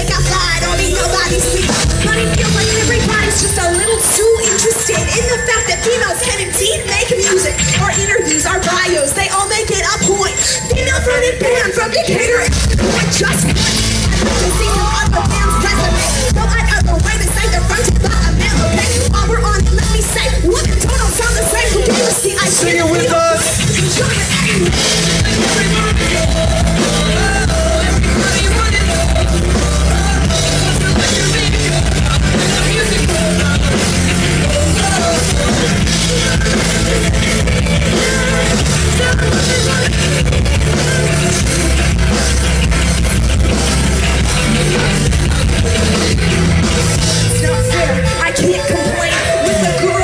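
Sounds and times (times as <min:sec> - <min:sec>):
live rock band with singer: 0:00.0 - 0:50.0.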